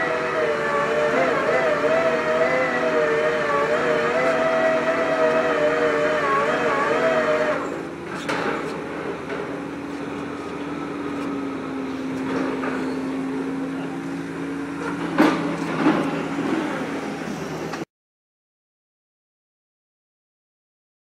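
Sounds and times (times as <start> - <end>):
piling rig engine droning: 0.0 - 17.9.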